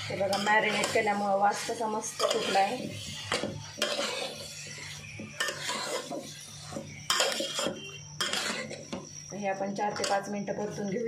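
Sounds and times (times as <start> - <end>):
spoon scraping metal pot: 0.0 - 9.0, 9.9 - 10.3.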